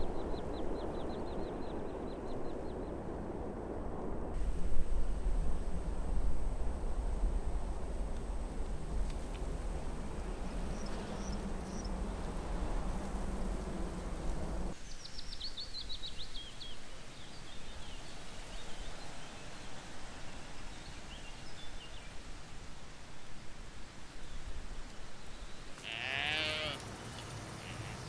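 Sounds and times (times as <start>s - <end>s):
wind rumble on microphone: 0.0s - 25.7s
soft steady hiss: 4.2s - 28.0s.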